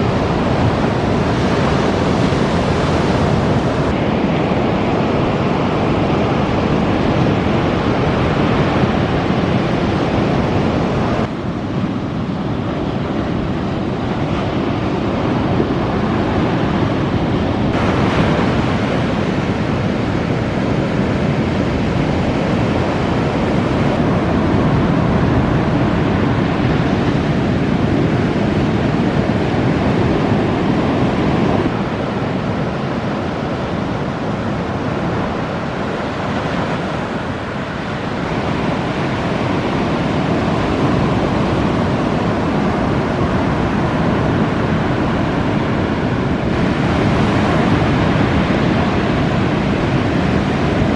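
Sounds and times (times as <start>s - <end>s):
ocean surf breaking: 0.0s - 50.9s
wind on microphone: 0.0s - 50.9s.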